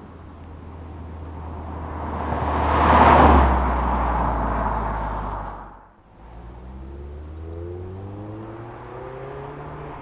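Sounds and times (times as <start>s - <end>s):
car driving past: 1.1s - 10.0s.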